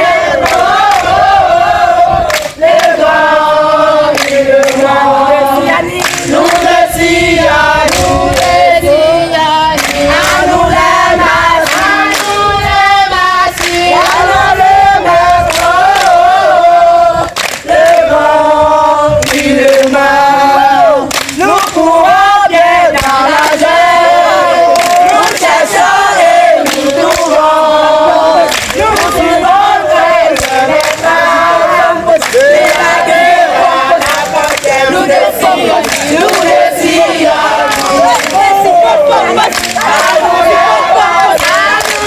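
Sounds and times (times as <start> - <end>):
group singing in chorus: 0.0 - 42.0.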